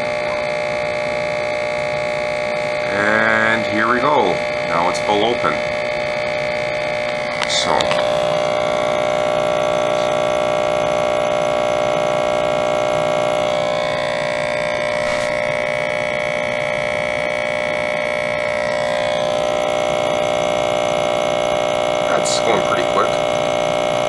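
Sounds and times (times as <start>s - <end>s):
electric pump humming with whine: 0.0s - 24.0s.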